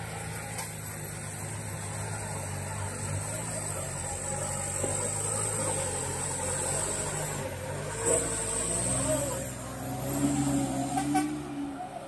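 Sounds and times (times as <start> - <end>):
truck diesel engine labouring: 0.0 - 12.0.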